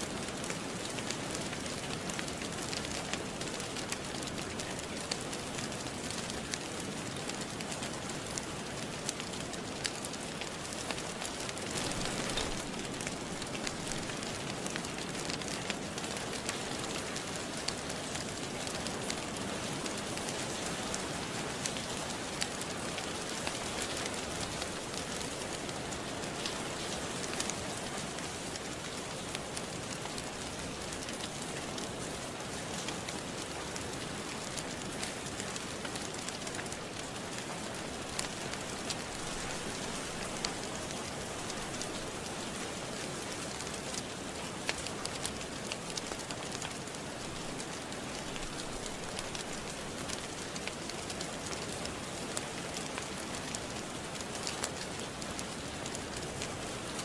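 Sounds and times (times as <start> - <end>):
fireplace fire crackling: 0.0 - 57.0
steady rain: 0.0 - 57.0.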